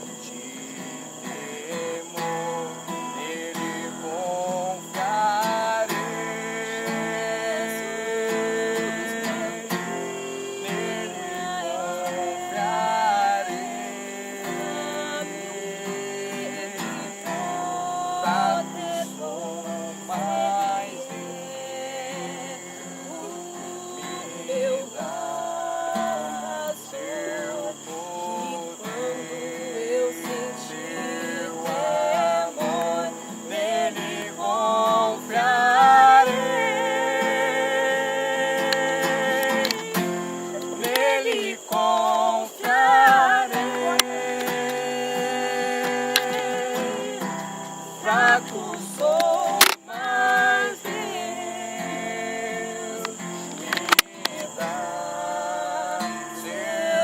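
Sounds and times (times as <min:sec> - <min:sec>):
acoustic guitar strumming: 0:00.0 - 0:57.0
person singing: 0:00.0 - 0:57.0.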